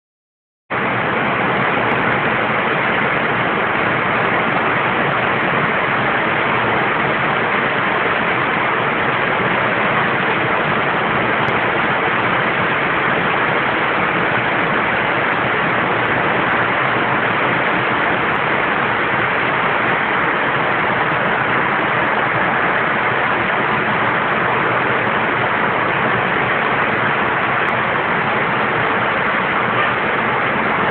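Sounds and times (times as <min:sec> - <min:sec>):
rain falling: 0:00.7 - 0:30.9.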